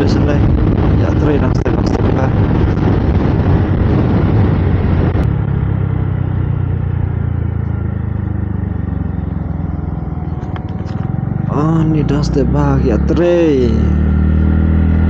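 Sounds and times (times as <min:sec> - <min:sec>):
rushing wind or road noise: 0:00.0 - 0:15.0
vehicle engine humming: 0:00.0 - 0:15.0.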